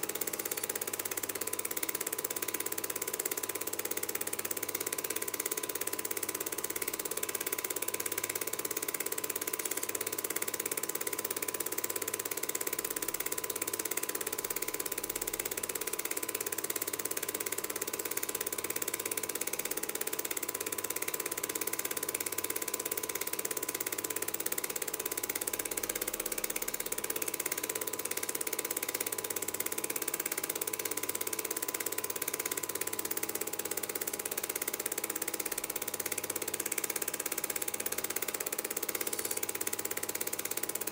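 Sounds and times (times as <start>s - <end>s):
film projector clatter: 0.0s - 40.9s.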